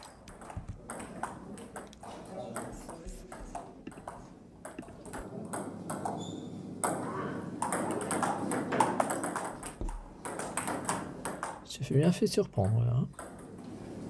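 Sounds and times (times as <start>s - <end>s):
table tennis balls clicking: 0.0s - 11.7s, 12.6s - 13.8s.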